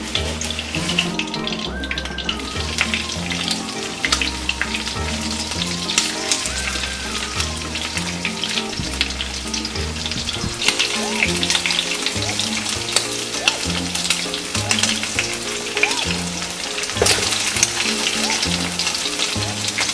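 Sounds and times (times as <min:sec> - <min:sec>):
background music with bass: 0:00.0 - 0:19.9
shrimp frying in oil: 0:00.0 - 0:19.9.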